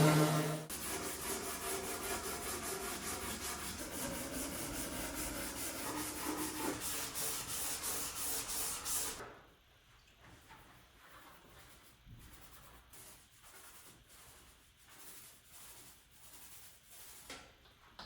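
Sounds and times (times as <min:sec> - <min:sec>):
sandpaper rubbing on wood: 0:00.0 - 0:09.2, 0:11.7 - 0:17.2.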